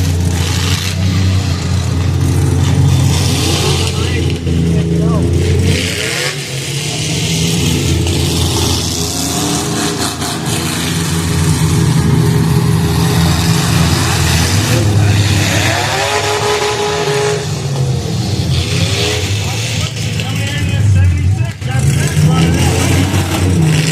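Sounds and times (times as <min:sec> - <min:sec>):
car engines revving: 0:00.0 - 0:23.9.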